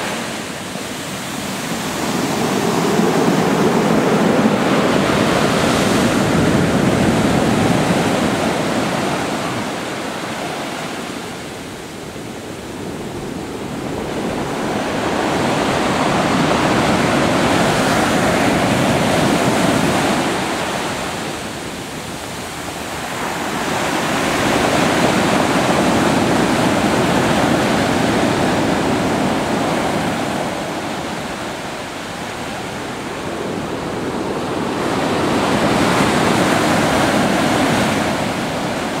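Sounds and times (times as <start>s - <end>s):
surf breaking and washing in: 0.0s - 39.0s.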